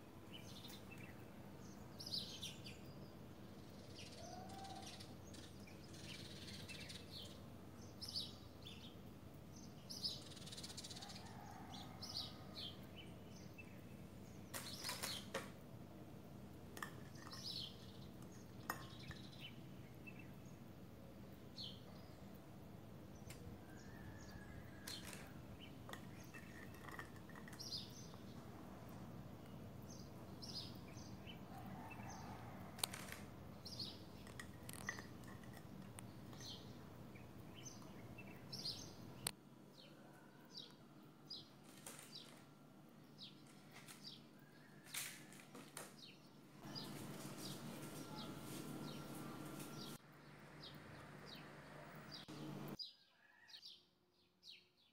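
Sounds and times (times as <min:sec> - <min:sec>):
low background hum: 0:00.0 - 0:52.8
faint birds chirping: 0:00.0 - 0:54.9.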